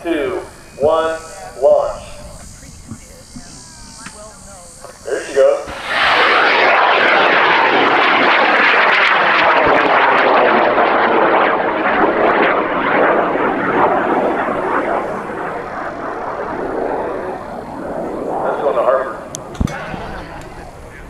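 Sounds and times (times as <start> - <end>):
rocket motor crackling roar: 0.0 - 21.0.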